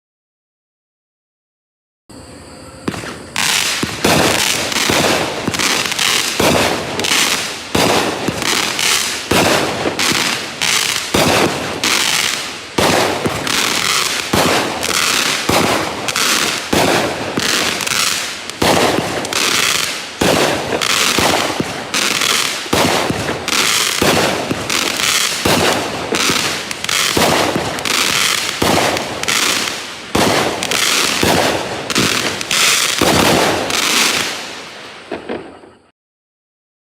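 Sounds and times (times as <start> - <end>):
firework cake firing bangs: 2.8 - 35.8.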